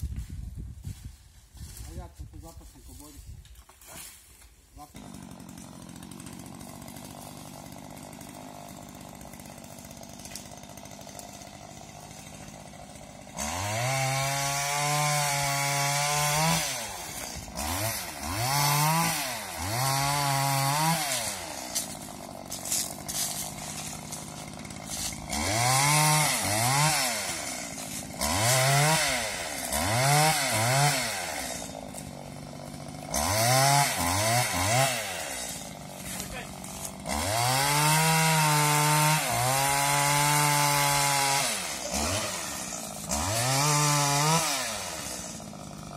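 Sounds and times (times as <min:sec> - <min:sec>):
pole saw engine revving: 0:04.8 - 0:45.9.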